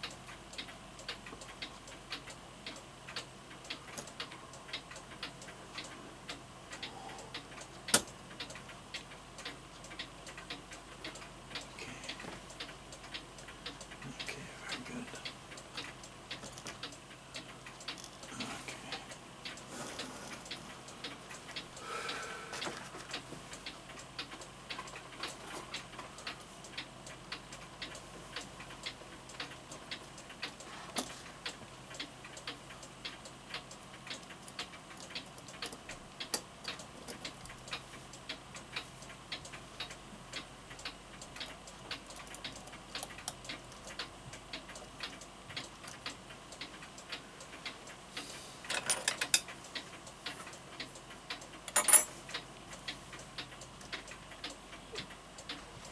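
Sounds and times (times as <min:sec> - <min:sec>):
rapid clock clicks: 0:00.0 - 0:48.0, 0:48.7 - 0:55.9
mantel clock ticking: 0:00.0 - 0:55.9.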